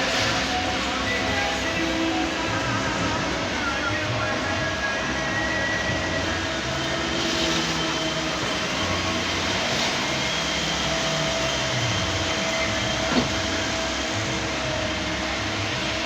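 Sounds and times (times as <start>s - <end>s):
heavy machinery engine running: 0.0s - 16.0s.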